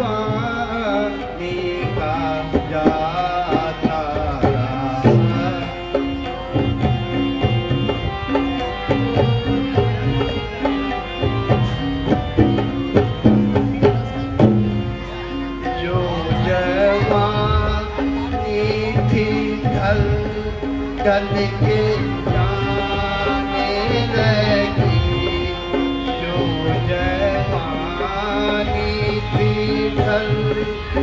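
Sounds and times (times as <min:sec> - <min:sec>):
hand drums: 0:00.0 - 0:31.0
held sliding melody line: 0:00.0 - 0:31.0.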